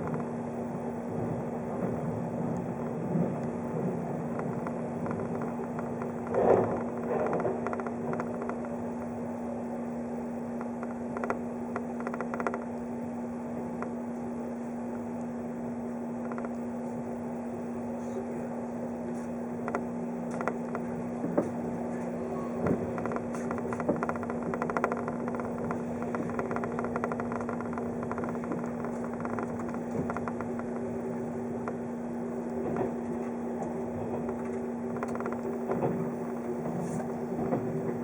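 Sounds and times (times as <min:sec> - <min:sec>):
train hum and rumble: 0:00.0 - 0:38.0.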